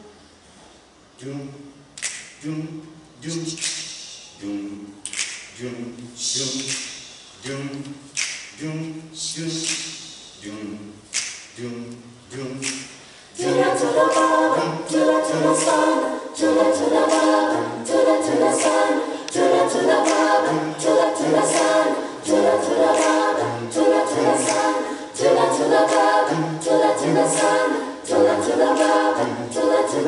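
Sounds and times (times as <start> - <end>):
bass voices repeated notes: 1.1 - 30.0
a cappella choir singing: 2.4 - 30.0.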